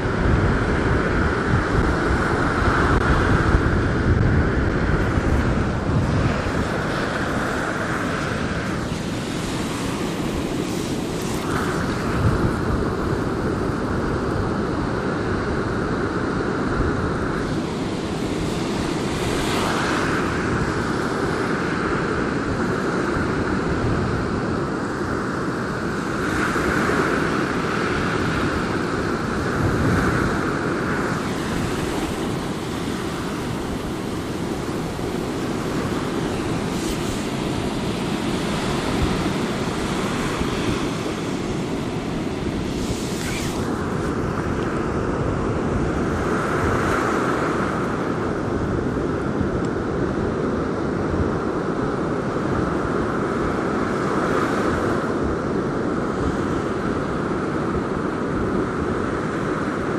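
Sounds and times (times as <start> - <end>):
surf breaking on sandy beach: 0.0 - 59.9
wind buffeting microphone: 0.0 - 59.9.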